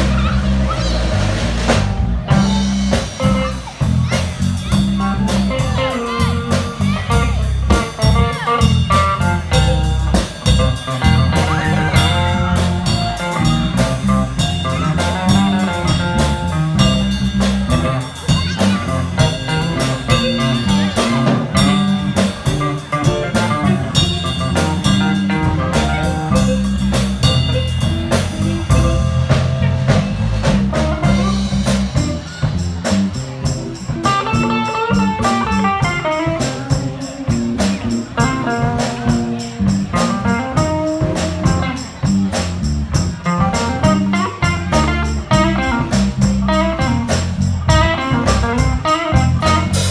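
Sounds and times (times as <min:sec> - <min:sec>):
drum kit beat: 0:00.0 - 0:49.9
electric bass: 0:00.0 - 0:49.9
electric guitars: 0:00.0 - 0:49.9.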